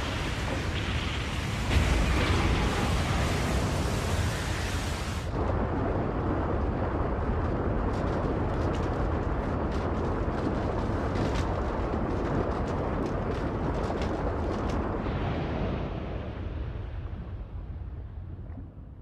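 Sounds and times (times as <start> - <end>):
sharp crackles: 0.0 - 16.4
heavy rushing rumble: 0.0 - 19.0.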